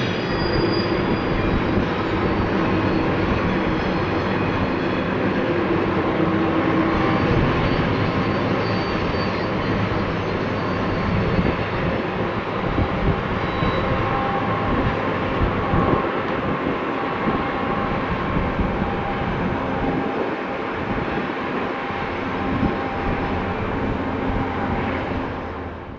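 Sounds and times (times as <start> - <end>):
freight train wheels rumbling: 0.0 - 25.9.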